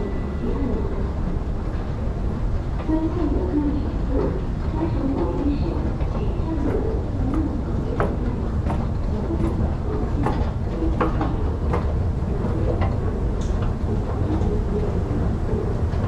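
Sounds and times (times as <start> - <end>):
escalator rumbling with clicks: 0.0 - 16.0.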